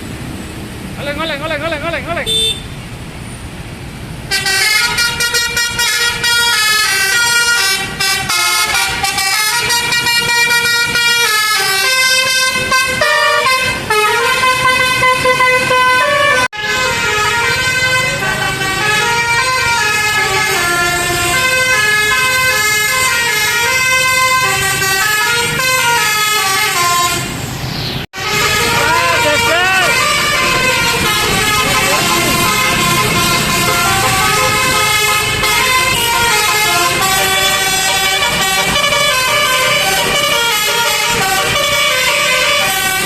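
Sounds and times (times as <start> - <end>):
musical air horn playing a tune: 4.3 - 27.3, 28.2 - 43.0.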